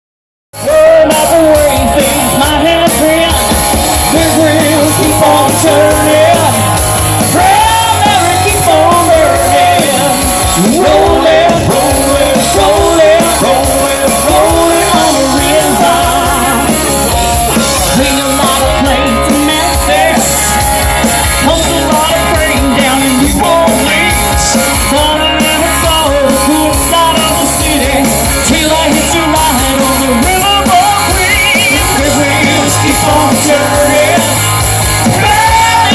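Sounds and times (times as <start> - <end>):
rock band playing: 0.5 - 35.9
person singing: 0.6 - 35.9.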